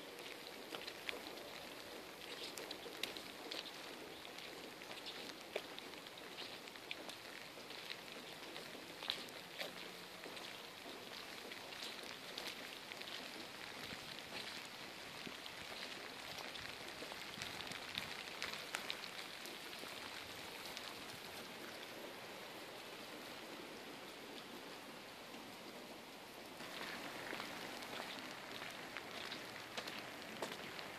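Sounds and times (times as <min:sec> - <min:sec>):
light rain falling: 0:00.0 - 0:30.9.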